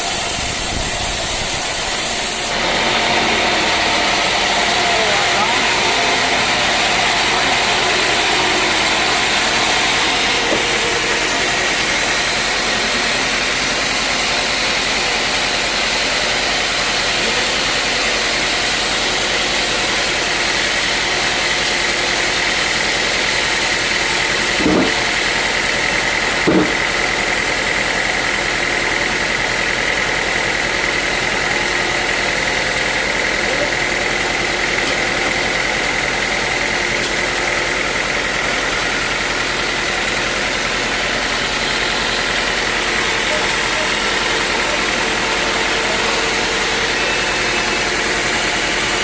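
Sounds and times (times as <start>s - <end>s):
high saw whine: 0.0s - 49.0s
sawmill machinery running: 0.0s - 49.0s.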